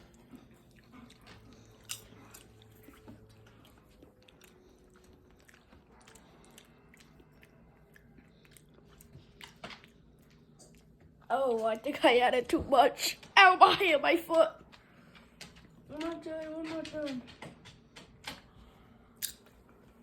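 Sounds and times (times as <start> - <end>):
chewing popcorn: 0.0 - 11.9, 14.6 - 20.0.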